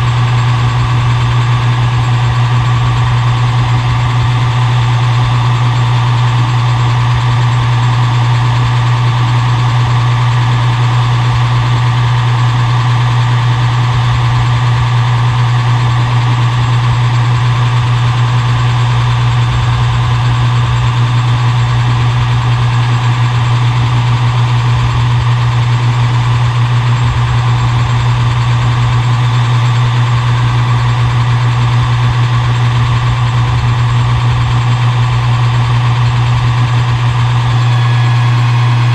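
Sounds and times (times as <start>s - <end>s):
lathe motor humming: 0.0s - 38.9s.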